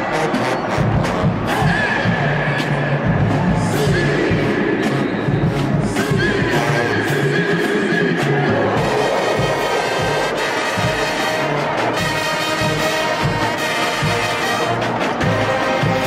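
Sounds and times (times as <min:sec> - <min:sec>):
marching band brass chords: 0:00.0 - 0:16.0.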